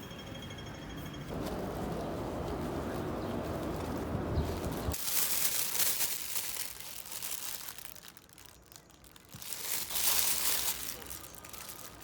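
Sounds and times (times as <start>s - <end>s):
packaging crinkling: 1.3s - 12.0s.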